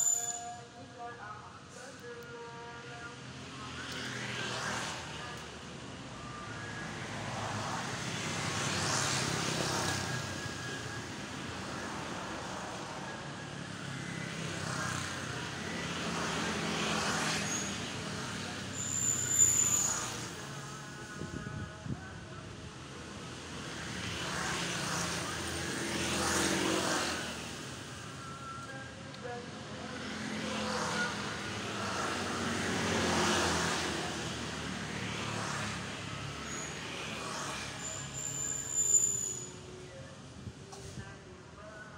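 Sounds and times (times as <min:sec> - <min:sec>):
road traffic hum: 0:00.0 - 0:41.9.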